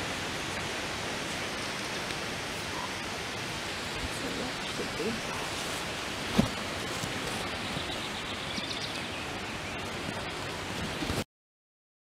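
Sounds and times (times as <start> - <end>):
outdoor background hiss: 0.0 - 11.2.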